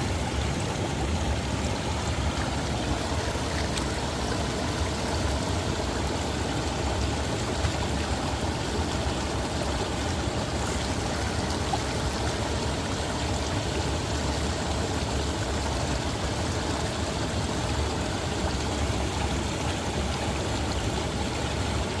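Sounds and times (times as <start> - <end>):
stream flowing over rocks: 0.0 - 22.0.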